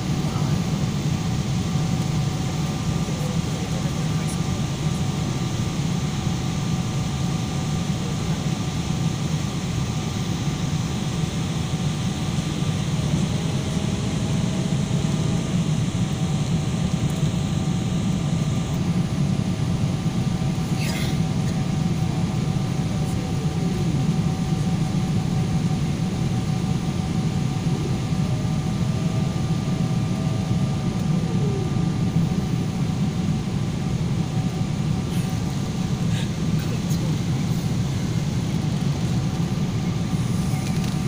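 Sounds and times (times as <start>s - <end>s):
airliner cabin drone: 0.0s - 41.0s
faint steady whine: 0.0s - 41.0s.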